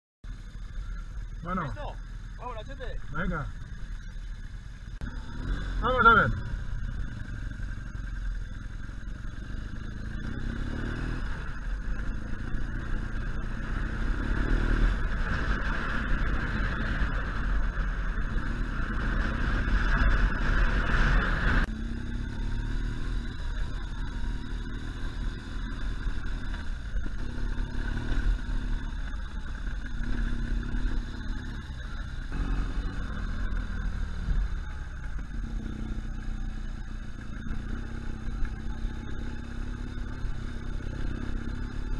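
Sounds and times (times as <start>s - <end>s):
motorcycle engine revving: 0.2s - 41.9s.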